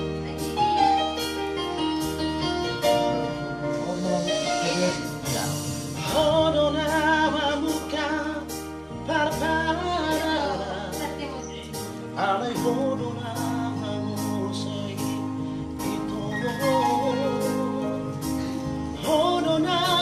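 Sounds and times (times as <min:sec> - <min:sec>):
electronic keyboard with beat: 0:00.0 - 0:20.0
man singing with vibrato: 0:03.8 - 0:20.0.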